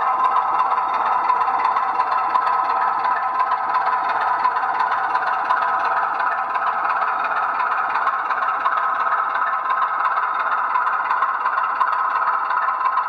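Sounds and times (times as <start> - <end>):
model train hum and rattle: 0.0 - 13.0.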